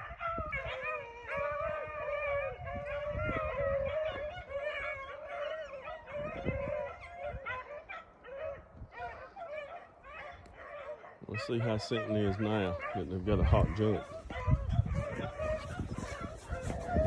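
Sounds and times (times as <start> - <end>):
hounds baying: 0.0 - 17.0
wind rumble on microphone: 0.0 - 17.0.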